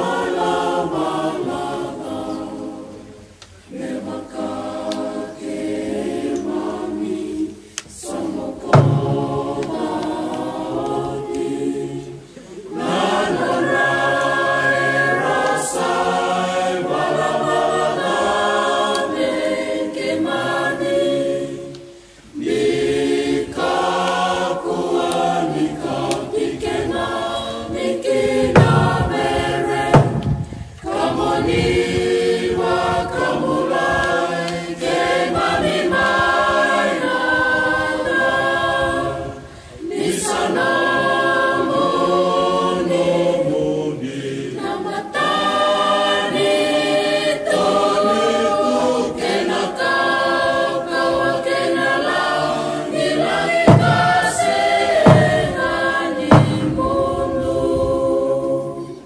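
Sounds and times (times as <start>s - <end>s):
men's choir singing a cappella: 0.0s - 59.0s.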